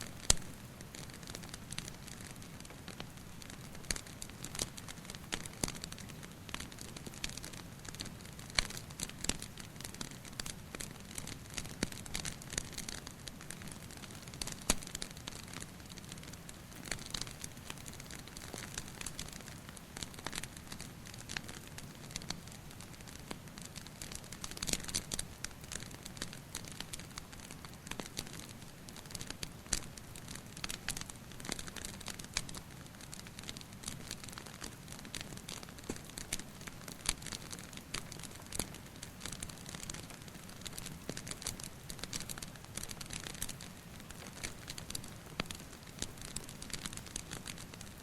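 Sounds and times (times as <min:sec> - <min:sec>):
low hiss: 0:00.0 - 0:48.0
sharp pops and snaps: 0:00.0 - 0:48.0
wood fire crackling: 0:00.0 - 0:48.0.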